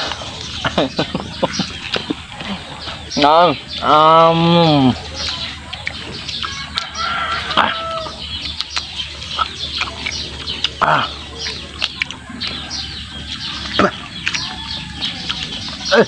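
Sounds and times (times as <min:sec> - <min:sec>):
chickens clucking: 0:00.0 - 0:16.0
small birds chirping: 0:00.0 - 0:16.0.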